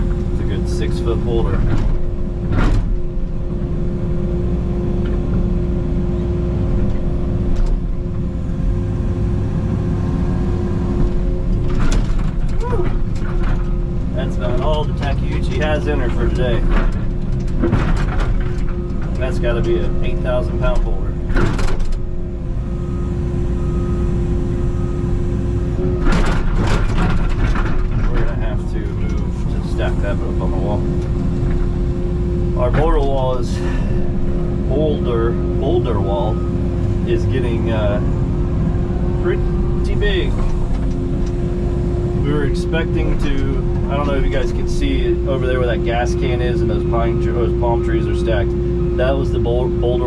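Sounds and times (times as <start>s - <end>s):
excavator diesel engine straining: 0.0s - 50.0s
hydraulic whine: 0.0s - 50.0s.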